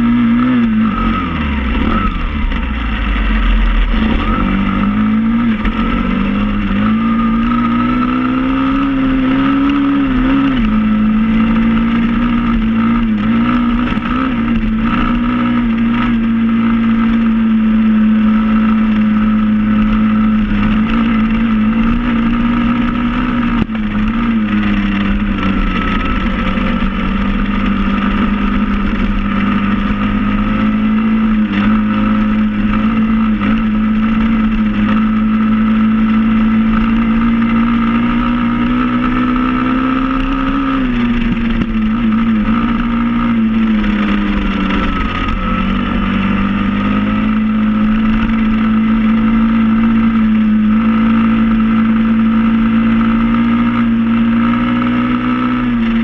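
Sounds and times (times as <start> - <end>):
small motorbike engine running: 0.0 - 56.0.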